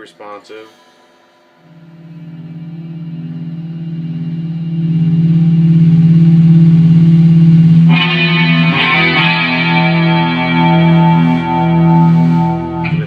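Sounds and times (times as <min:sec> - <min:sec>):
electric guitar chords: 0:01.6 - 0:13.0.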